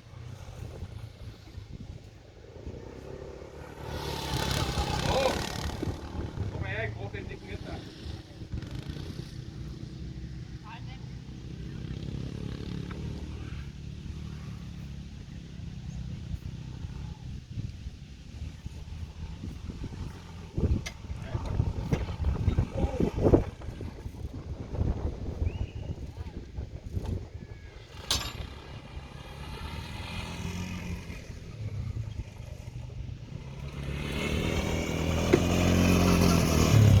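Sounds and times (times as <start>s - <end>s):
motorcycle engines droning: 0.0s - 37.0s.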